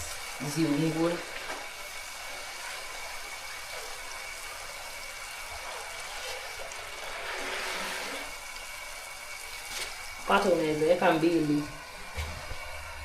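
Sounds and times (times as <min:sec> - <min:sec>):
dough sizzling in hot oil: 0:00.0 - 0:13.0.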